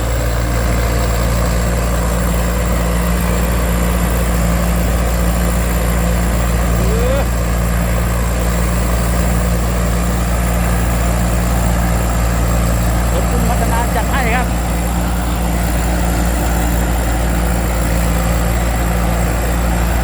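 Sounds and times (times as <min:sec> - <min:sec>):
harvester engine drone: 0:00.0 - 0:20.0
high whine: 0:00.0 - 0:20.0.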